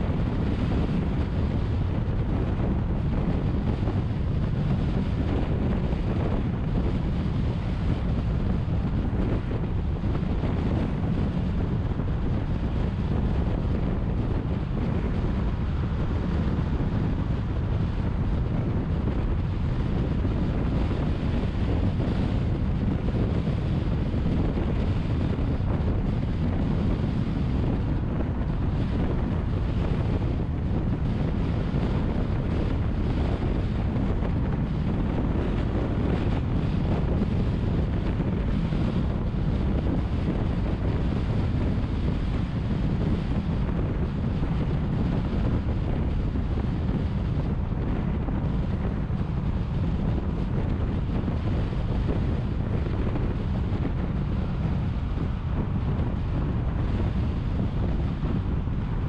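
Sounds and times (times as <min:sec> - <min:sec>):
car road noise: 0:00.0 - 0:59.0
wind buffeting microphone: 0:00.0 - 0:59.0.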